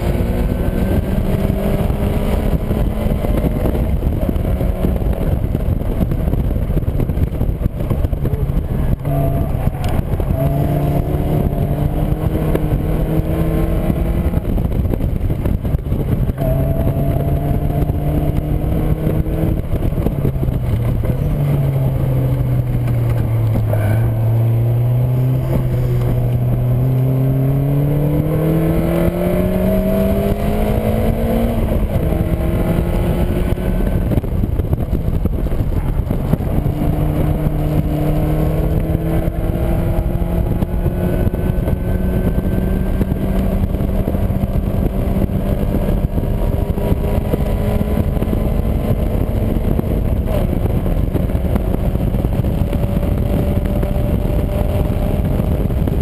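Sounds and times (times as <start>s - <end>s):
car engine revving: 0.0s - 56.0s
wind and road rush: 0.0s - 56.0s.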